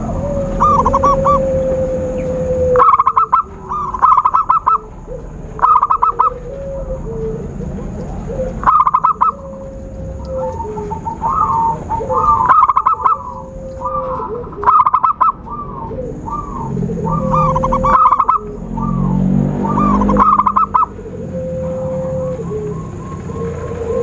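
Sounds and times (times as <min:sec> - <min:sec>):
doves cooing: 0:00.0 - 0:24.0
steady low held tone: 0:00.0 - 0:24.0.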